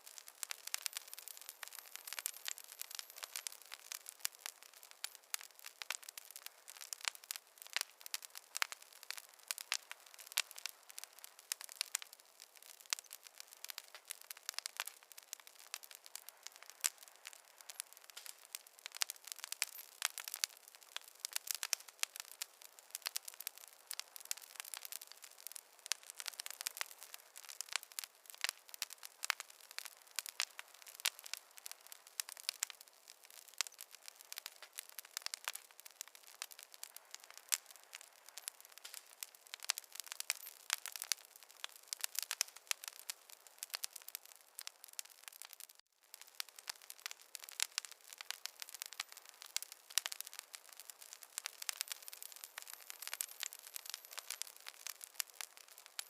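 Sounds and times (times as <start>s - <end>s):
fireplace fire crackling: 0.0s - 56.0s.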